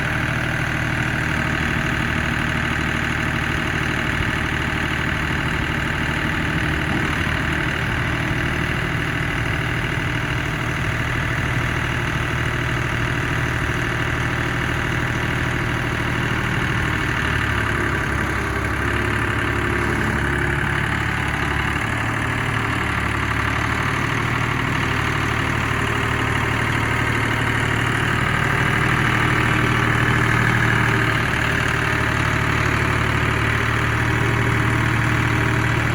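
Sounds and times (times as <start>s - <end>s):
tractor engine idling: 0.0s - 35.9s.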